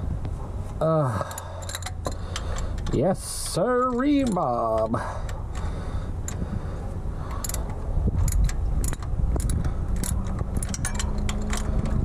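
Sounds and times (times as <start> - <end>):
ratchet wrench clicking: 1.2 - 6.4, 7.2 - 12.0.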